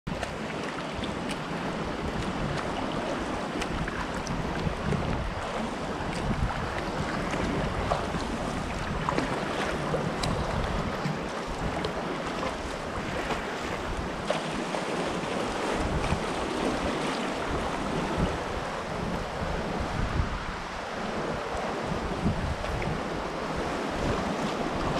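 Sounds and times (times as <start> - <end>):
water lapping around kayak: 0.1 - 24.9
wind buffeting microphone: 0.1 - 24.9.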